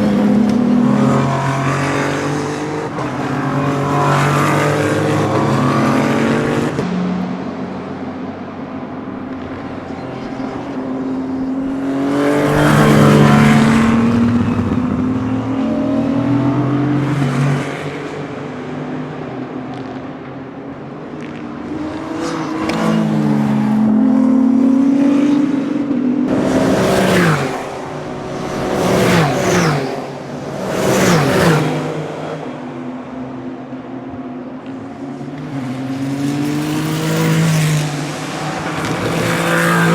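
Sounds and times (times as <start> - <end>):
racing cars passing at speed: 0.0 - 39.9.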